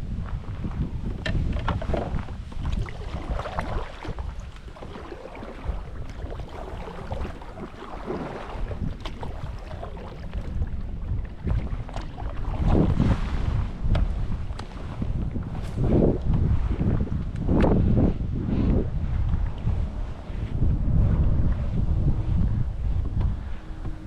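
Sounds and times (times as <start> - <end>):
wind buffeting microphone: 0.0 - 24.0
water lapping: 1.8 - 21.7.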